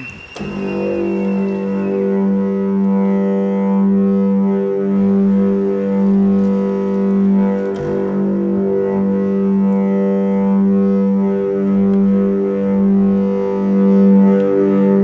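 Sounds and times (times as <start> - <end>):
low droning tone: 0.0 - 15.0.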